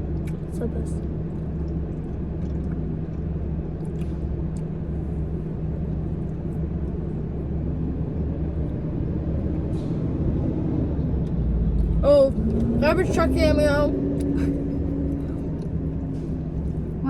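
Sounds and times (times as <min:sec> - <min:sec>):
vehicle rumble: 0:00.0 - 0:17.0.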